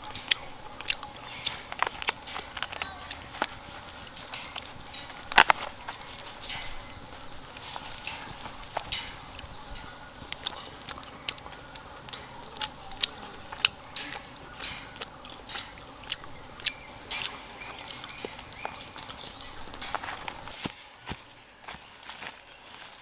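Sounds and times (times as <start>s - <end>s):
steady rain: 0.0s - 21.6s.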